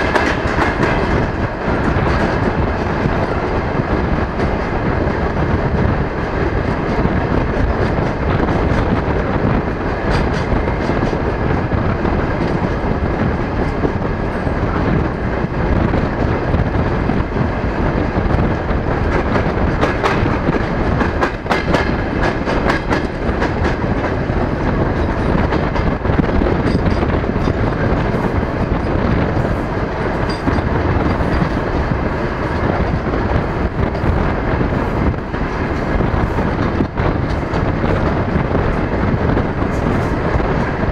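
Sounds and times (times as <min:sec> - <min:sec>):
clickety-clack of train wheels: 0:00.0 - 0:40.9
train wheels rumbling on rails: 0:00.0 - 0:40.9.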